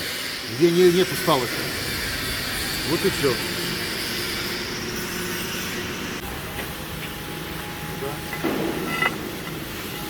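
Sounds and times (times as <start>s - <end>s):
machine droning hum: 0.0s - 10.0s.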